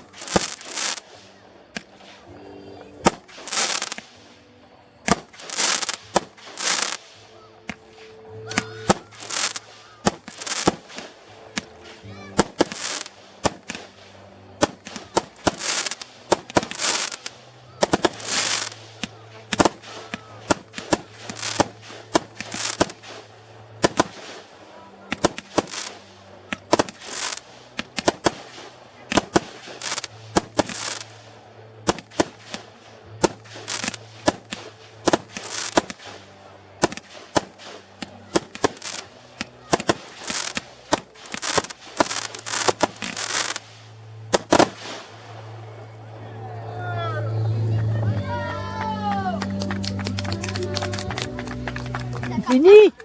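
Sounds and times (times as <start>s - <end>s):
fireworks bangs with crackling: 0.0s - 2.2s, 3.0s - 4.3s, 5.0s - 7.9s, 8.5s - 31.2s, 31.8s - 45.3s, 48.2s - 52.8s.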